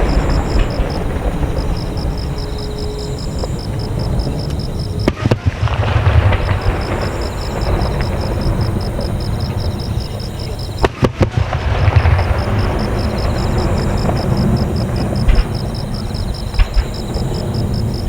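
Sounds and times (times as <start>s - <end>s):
fireworks shells bursting: 0.0s - 18.0s
low rumbling booms: 0.0s - 18.0s.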